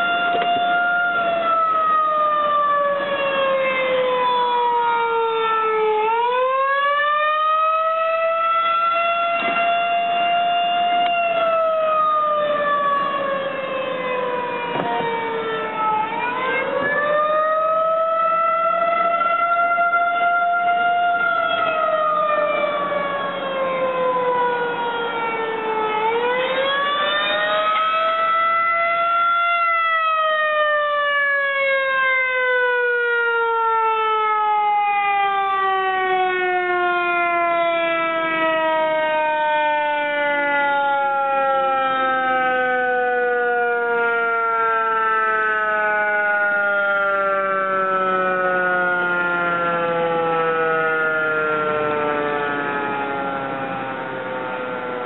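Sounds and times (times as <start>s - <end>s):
warning siren wailing: 0.0s - 55.0s.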